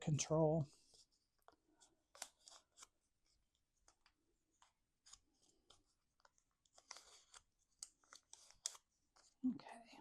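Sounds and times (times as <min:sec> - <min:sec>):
paper rustling and ticking: 0:00.8 - 0:09.4.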